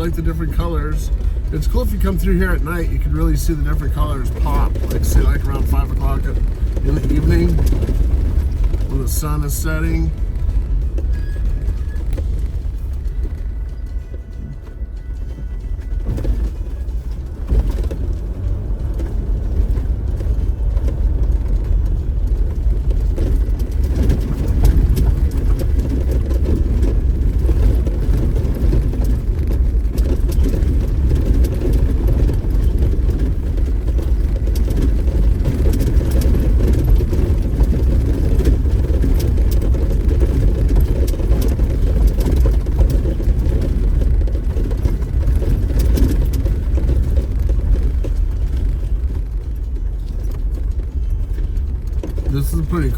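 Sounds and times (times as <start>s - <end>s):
knocks and rattles: 0.0s - 52.9s
off-road vehicle rumbling on dirt: 0.0s - 52.9s.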